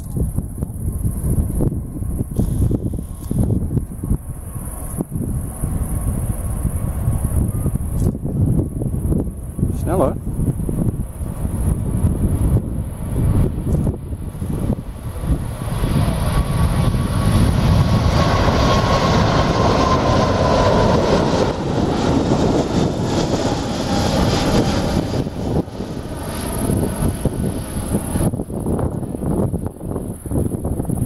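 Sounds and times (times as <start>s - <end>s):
jet engine whine: 0.0s - 31.0s
jet airliner taking off: 0.1s - 31.0s.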